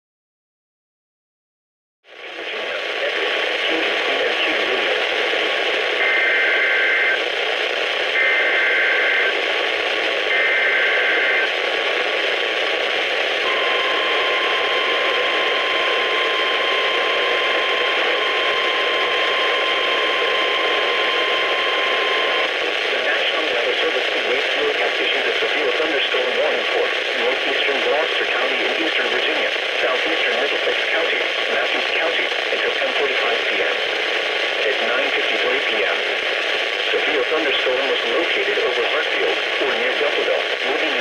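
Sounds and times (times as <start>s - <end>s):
radio static hiss: 2.1s - 41.0s.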